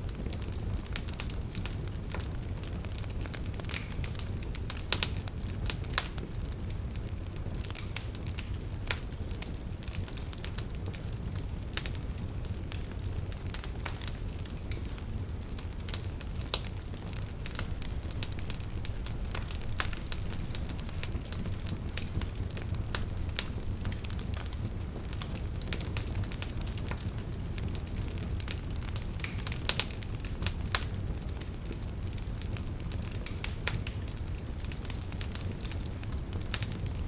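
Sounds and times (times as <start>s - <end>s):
burning wood crackling: 0.0s - 37.0s
campfire flames rumbling: 0.0s - 37.0s.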